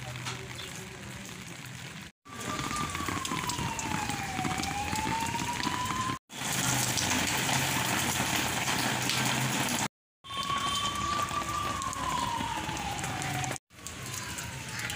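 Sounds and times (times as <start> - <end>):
rain falling: 0.0 - 14.9.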